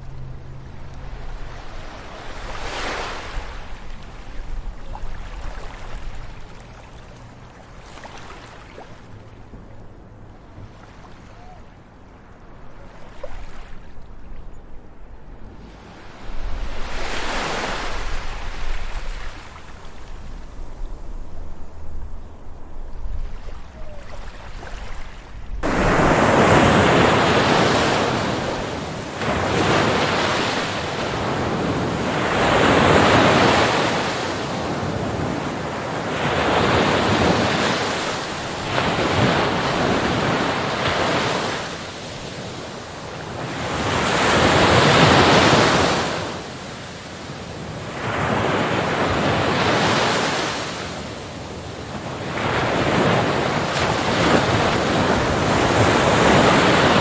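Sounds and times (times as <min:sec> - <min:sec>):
waves breaking on a beach: 0:00.0 - 0:14.5, 0:15.4 - 0:57.0.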